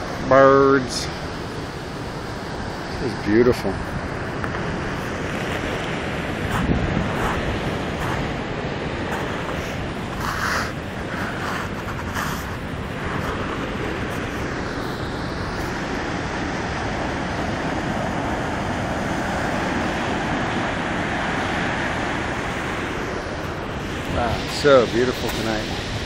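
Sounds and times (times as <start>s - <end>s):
ocean surf breaking on rocks: 0.0s - 26.0s.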